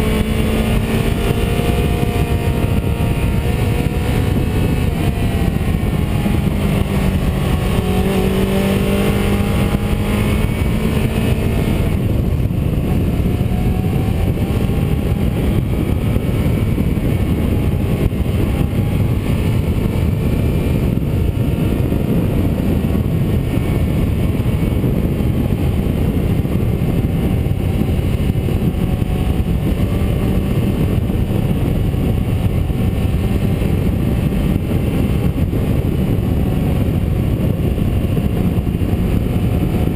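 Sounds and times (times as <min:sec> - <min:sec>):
car engine running under load: 0:00.0 - 0:39.9
road and tyre noise: 0:00.0 - 0:39.9.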